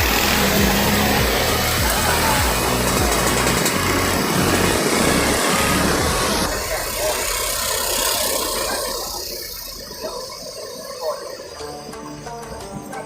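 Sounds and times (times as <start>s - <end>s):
motor vehicle engine: 0.0s - 13.0s
road noise: 0.0s - 13.0s.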